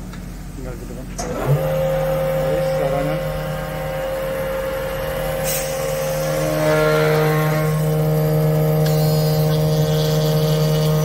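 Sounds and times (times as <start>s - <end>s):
router spindle motor whining: 1.2s - 11.0s.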